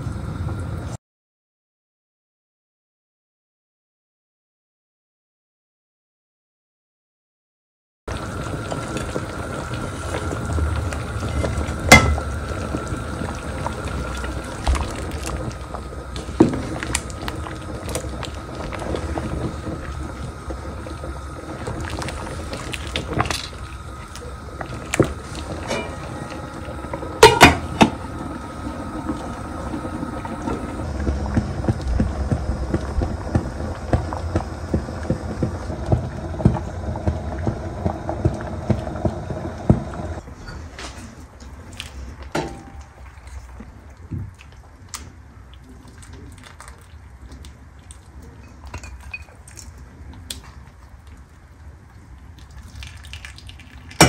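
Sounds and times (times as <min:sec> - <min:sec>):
pot simmering with bubbling hiss: 0:08.1 - 0:54.0.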